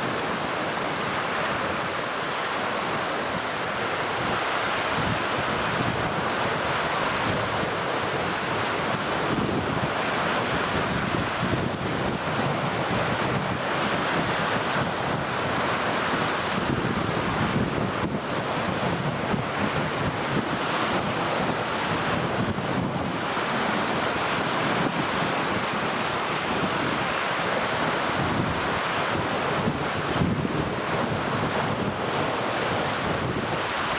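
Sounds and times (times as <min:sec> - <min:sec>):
waves breaking on shore: 0:00.0 - 0:33.9
wind buffeting microphone: 0:00.0 - 0:33.9.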